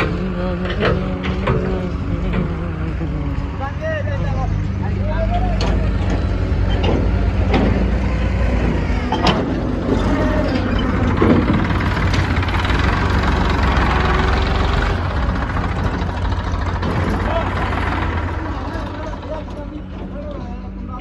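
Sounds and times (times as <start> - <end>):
heavy diesel engines running: 0.0 - 21.0.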